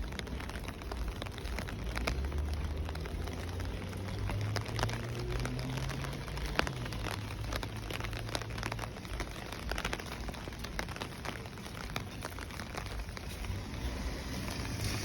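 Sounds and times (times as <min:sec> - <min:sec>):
raindrops tapping close by: 0:00.0 - 0:15.0
steady rain falling: 0:00.0 - 0:15.0.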